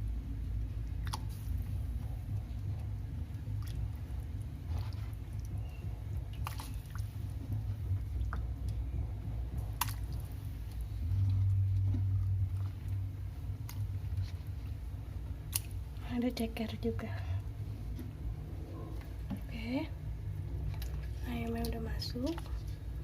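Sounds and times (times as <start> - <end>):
low rumble: 0.0 - 23.0
chicken squishing and plopping in water: 0.6 - 16.0, 19.0 - 23.0.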